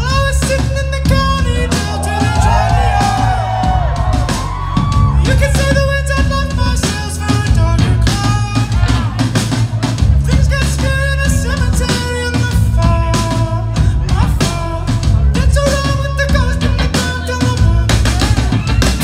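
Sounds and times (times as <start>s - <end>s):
person singing: 0.0s - 9.4s, 10.1s - 19.0s
bass guitar: 0.0s - 19.0s
drum kit: 0.0s - 19.0s.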